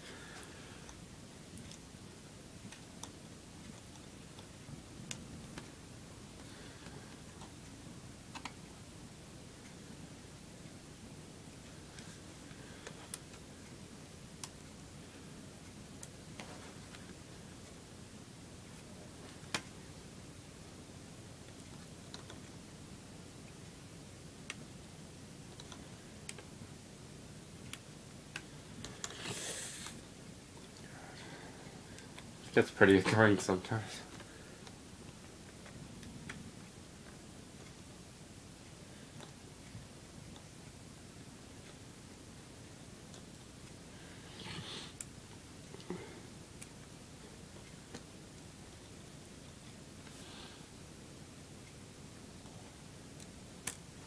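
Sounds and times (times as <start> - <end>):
room hiss: 0.0 - 54.0.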